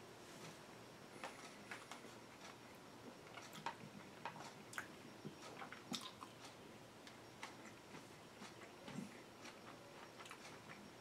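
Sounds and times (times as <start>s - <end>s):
soft chewing: 1.2s - 11.0s.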